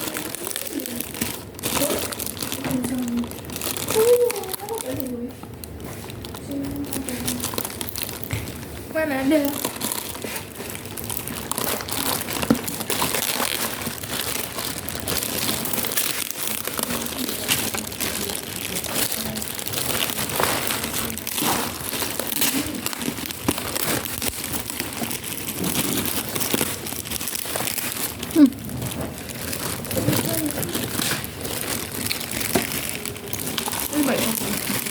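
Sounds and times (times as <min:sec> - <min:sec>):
plastic wrapping crinkling: 0:00.0 - 0:34.9.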